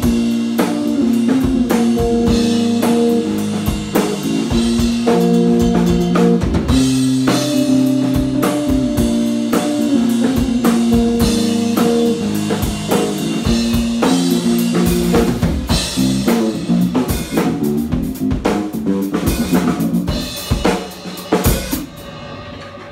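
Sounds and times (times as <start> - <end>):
overdriven electric bass: 0.0 - 22.0
drum kit beat: 0.0 - 22.9.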